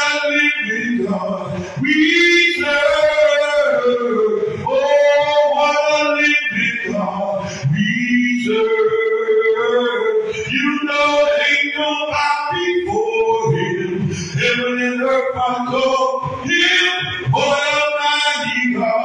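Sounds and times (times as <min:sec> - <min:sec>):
man singing gospel: 0:00.0 - 0:19.0.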